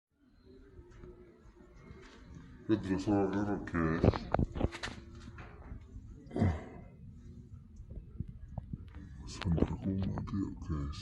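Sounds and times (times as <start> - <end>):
low background noise: 0.2 - 11.0.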